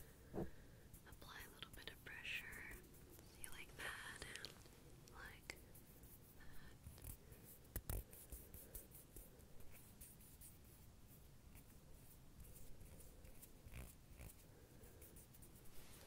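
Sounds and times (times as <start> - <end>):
soft scratching and rustling: 0.0 - 16.0.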